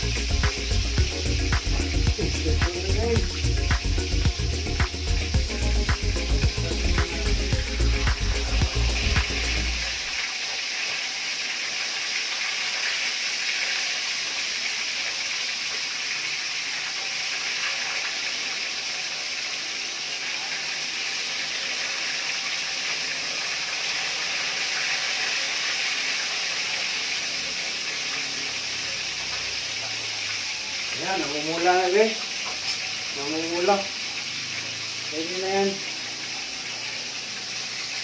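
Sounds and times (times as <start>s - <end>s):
fish sizzling in hot oil: 0.0s - 38.0s.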